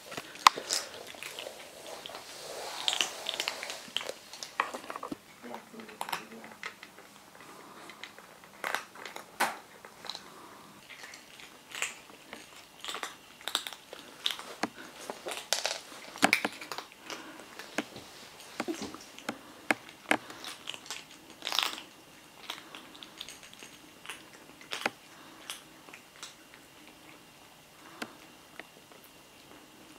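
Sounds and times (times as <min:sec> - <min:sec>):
kittens crunching dry kibble: 0:00.0 - 0:29.9.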